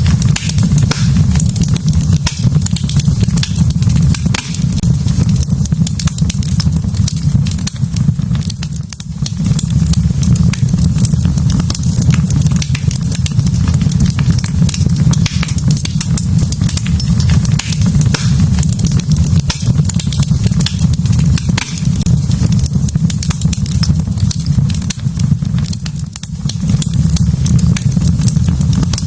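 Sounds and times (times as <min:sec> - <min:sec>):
fire low rumble: 0:00.0 - 0:29.0
logs crackling and popping: 0:00.0 - 0:29.0.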